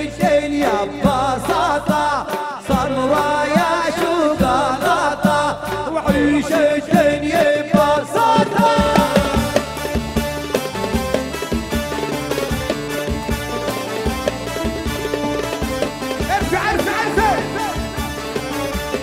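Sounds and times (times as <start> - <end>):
fast drum beat: 0.0 - 19.0
ornamented party music melody: 0.0 - 19.0.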